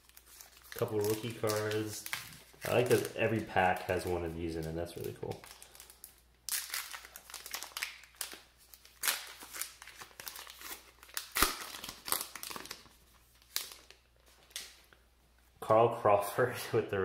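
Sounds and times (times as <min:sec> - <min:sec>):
wrapper crinkling and tearing: 0:00.0 - 0:14.8.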